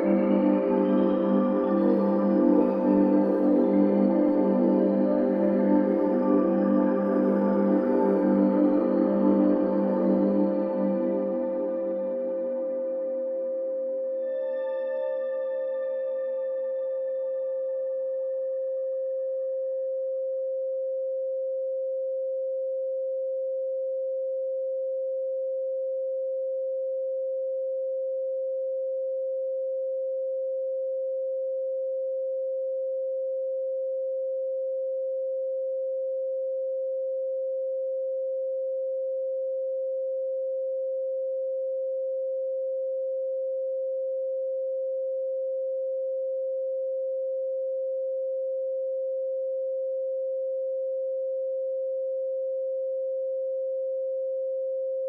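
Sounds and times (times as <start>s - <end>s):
pure sine tone: 0.0s - 55.0s.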